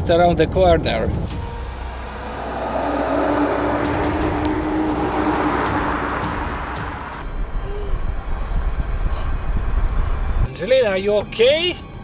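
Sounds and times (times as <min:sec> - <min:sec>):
road noise: 0:00.0 - 0:12.0
car engine: 0:00.5 - 0:10.5.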